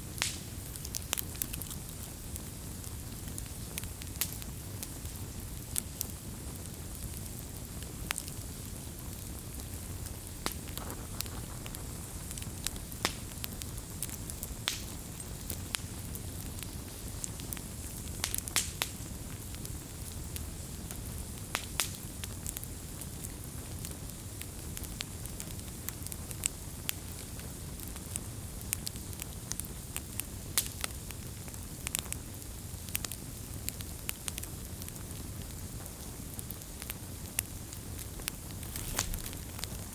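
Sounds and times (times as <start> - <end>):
burning wood crackling and popping: 0.0 - 39.9
campfire rumbling: 0.0 - 39.9.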